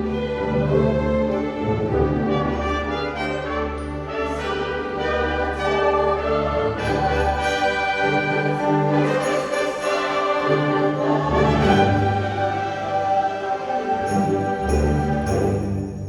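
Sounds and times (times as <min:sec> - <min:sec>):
orchestra playing: 0:00.0 - 0:16.0
french horns: 0:01.3 - 0:16.0.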